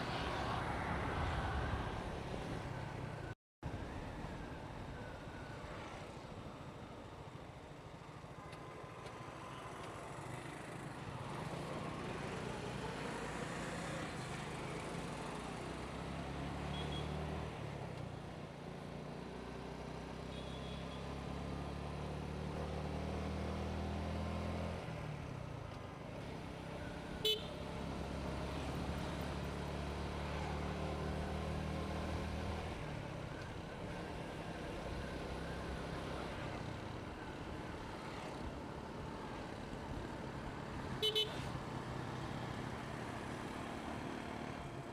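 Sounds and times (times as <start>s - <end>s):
road and wind noise: 0.0s - 44.9s.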